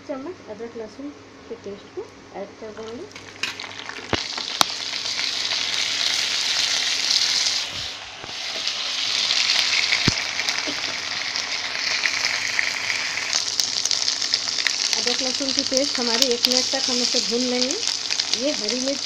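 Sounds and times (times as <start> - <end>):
onion rings sizzling in oil: 2.8 - 19.0.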